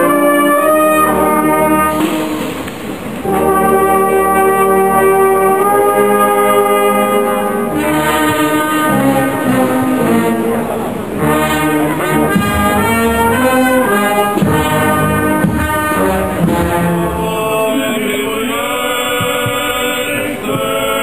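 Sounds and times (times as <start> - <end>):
brass band playing solemn music: 0.0 - 21.0.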